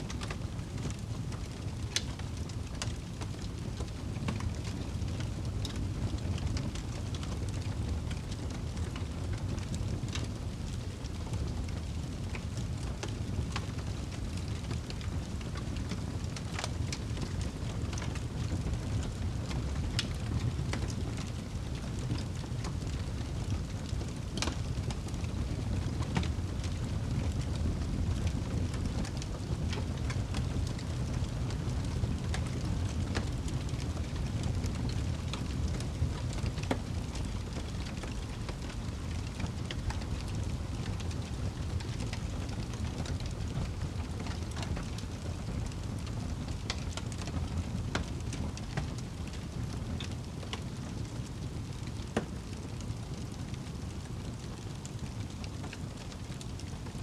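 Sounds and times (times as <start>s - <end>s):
fire crackles and pops: 0.0s - 57.0s.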